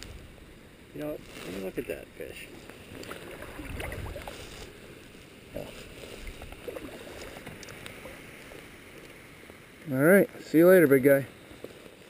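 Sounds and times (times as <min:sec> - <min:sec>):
flowing water rushing: 0:00.0 - 0:11.6.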